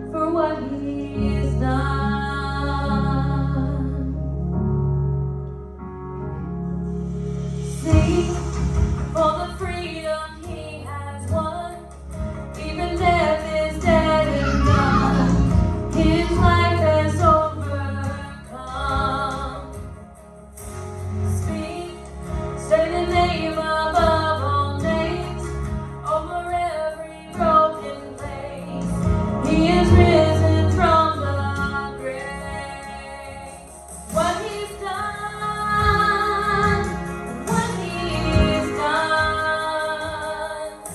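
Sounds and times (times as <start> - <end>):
woman singing: 0.0 - 4.2, 7.8 - 11.9, 12.6 - 19.9, 21.3 - 40.9
instrumental accompaniment with bass: 0.0 - 40.9.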